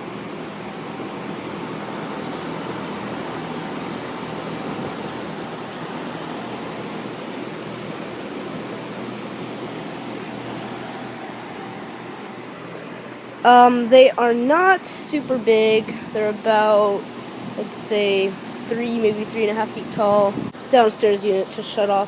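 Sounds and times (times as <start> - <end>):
air conditioner fans whooshing: 0.0 - 22.0
compressor low hum: 0.0 - 22.0.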